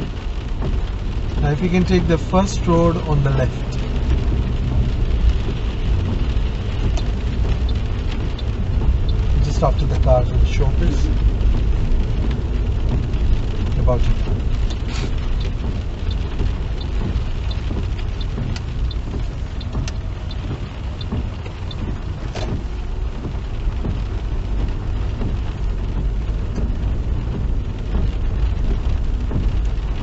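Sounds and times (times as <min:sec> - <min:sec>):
raindrops ticking on car: 0:00.0 - 0:30.0
road and engine rumble: 0:00.0 - 0:30.0.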